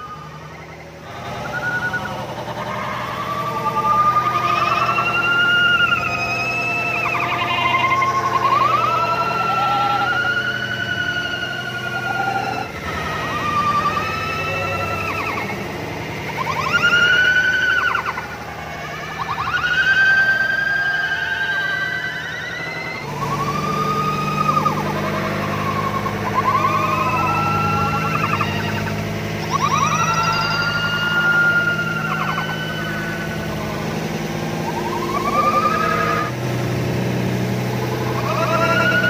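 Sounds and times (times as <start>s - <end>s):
riders screaming: 0.0s - 39.0s
steady low hum: 0.0s - 39.0s.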